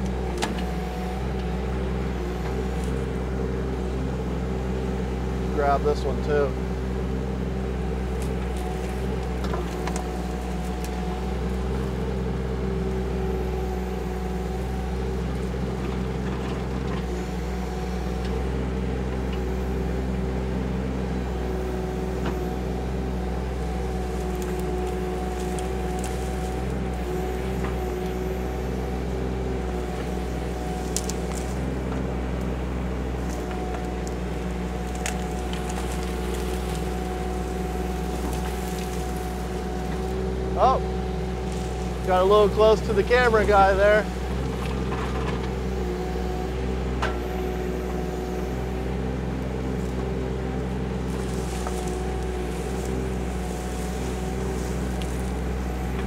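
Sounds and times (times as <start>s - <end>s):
diesel engine running: 0.0s - 56.0s
hydraulic whine: 0.0s - 56.0s.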